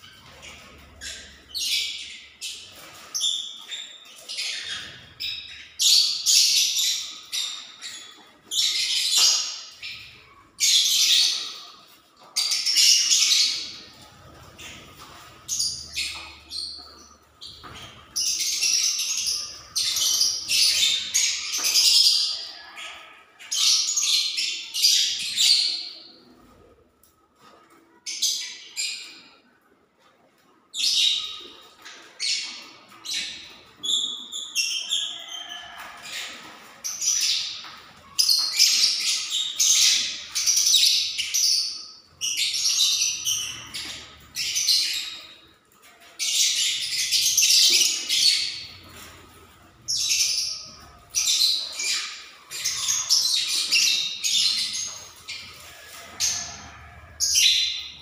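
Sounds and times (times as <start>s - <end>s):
lovebirds chattering and calling: 0.0s - 26.6s, 30.8s - 58.0s.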